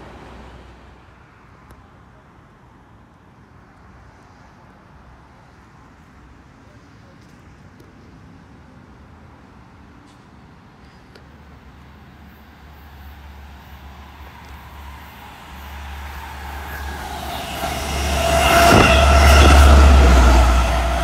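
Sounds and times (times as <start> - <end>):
passing train rumble: 0.0 - 21.0.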